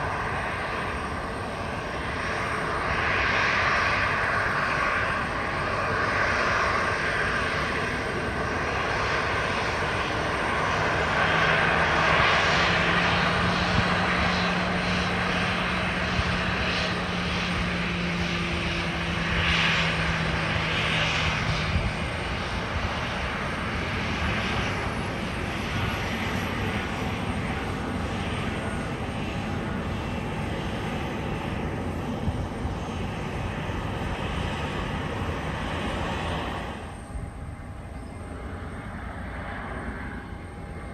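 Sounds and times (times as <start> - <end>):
jet engines droning: 0.0 - 40.9.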